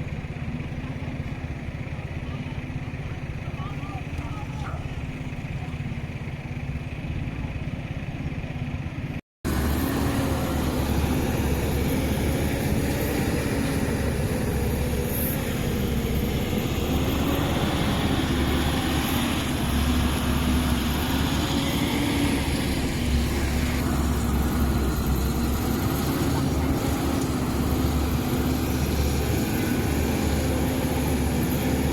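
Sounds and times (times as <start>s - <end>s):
construction machinery engine humming: 0.0s - 31.9s.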